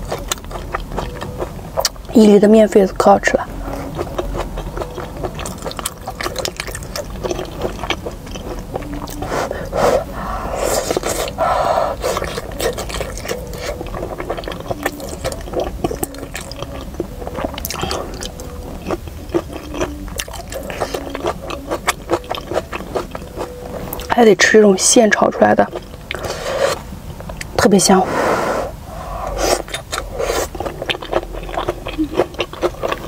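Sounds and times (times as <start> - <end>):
wet chewing and mouth smacks: 0.0 - 2.3, 3.6 - 24.2, 25.4 - 27.6, 29.2 - 33.0.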